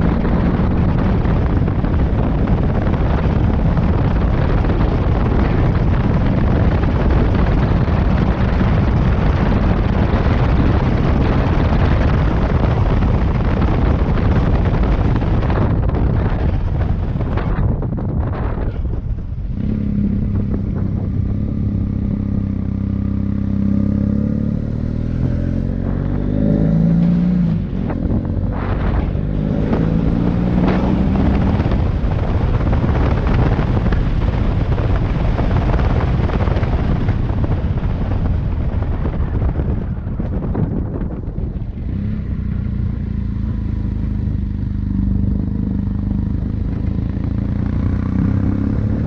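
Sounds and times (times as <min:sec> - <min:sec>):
motorcycle engine running: 0:00.0 - 0:49.0
rushing noise of riding: 0:00.0 - 0:49.0.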